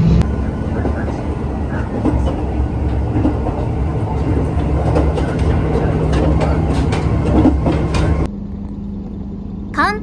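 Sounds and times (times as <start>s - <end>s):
train running low rumble: 0.0s - 10.0s.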